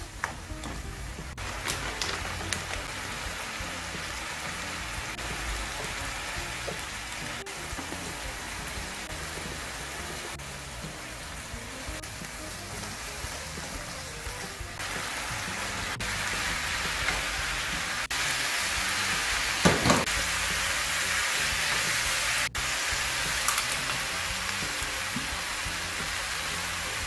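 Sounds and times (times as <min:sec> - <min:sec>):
background music: 0:00.0 - 0:27.0
meat sizzling in a frying pan: 0:01.3 - 0:27.0.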